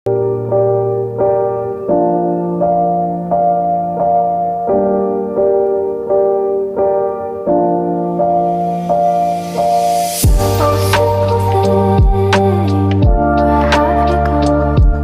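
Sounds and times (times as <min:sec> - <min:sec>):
electric piano repeating chords: 0:00.1 - 0:15.0.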